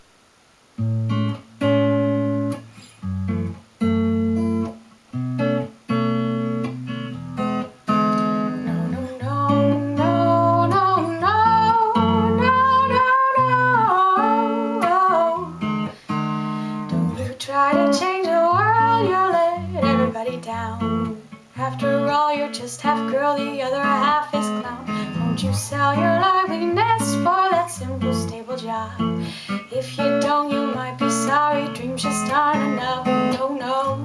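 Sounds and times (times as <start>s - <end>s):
acoustic guitar strumming: 0.8s - 34.0s.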